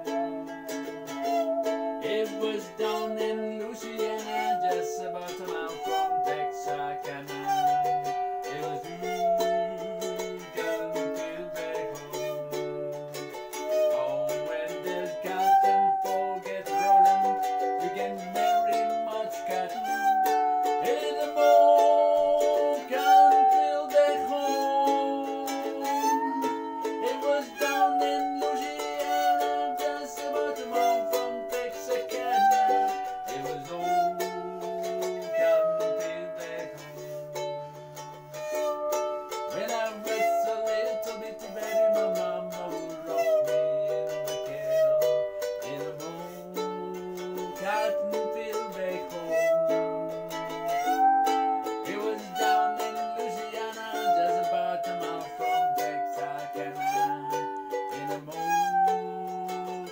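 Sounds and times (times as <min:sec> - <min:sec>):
musical saw melody: 0:00.0 - 0:59.9
strummed ukulele: 0:00.0 - 0:59.9.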